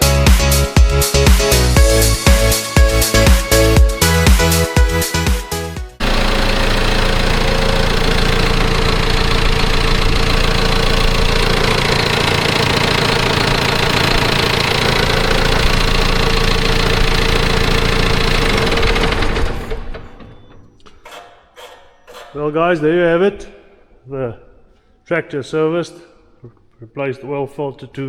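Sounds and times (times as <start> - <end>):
tractor diesel engine idling: 0.0 - 22.8.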